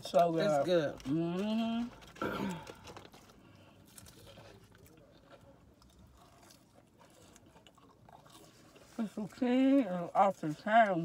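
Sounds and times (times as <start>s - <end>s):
crunching fried food: 0.0s - 11.0s.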